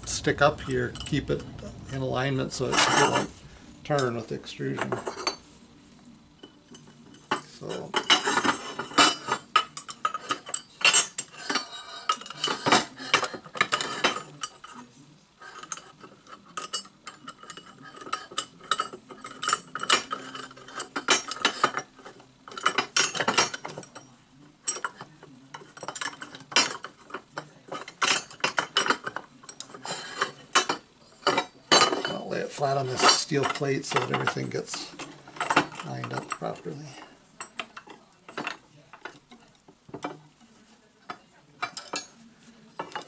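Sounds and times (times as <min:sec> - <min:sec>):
metal extrusions clinking: 0:00.0 - 0:05.6, 0:06.3 - 0:43.0.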